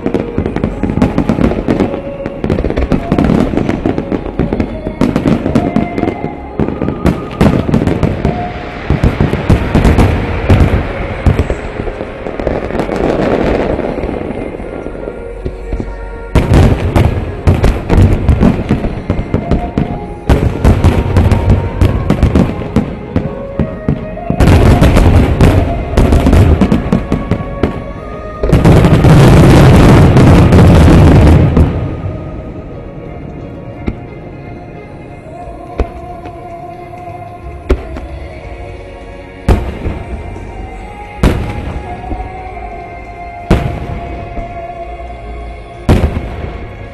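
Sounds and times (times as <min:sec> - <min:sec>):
music: 0:00.0 - 0:46.9.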